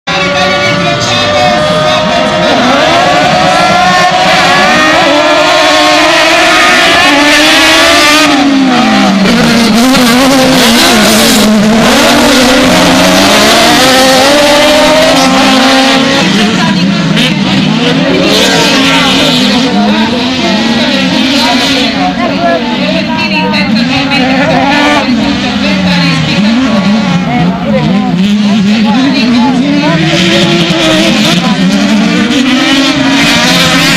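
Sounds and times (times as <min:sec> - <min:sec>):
race car engines revving: 0:00.0 - 0:33.9.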